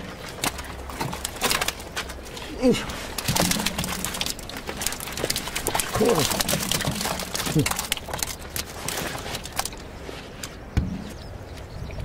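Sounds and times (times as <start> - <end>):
water splashing and dripping: 0.0 - 10.9
fish flopping and slapping on boards: 0.0 - 11.2.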